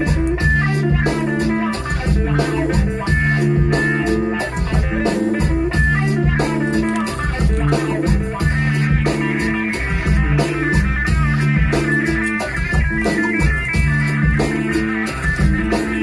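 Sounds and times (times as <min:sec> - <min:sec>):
guitar-led song with beat: 0:00.0 - 0:16.0.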